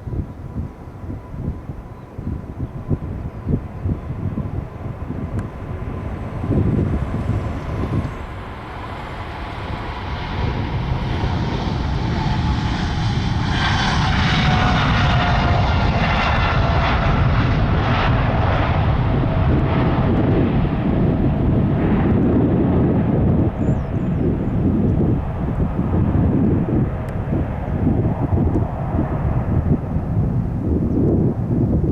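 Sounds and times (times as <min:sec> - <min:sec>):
jet engine whine: 0:00.0 - 0:31.9
jet engines rumbling: 0:00.0 - 0:31.9.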